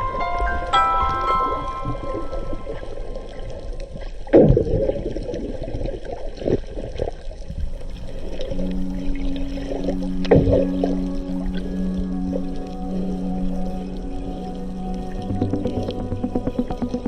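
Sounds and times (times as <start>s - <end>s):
sea water sloshing and splashing: 0.0s - 17.0s.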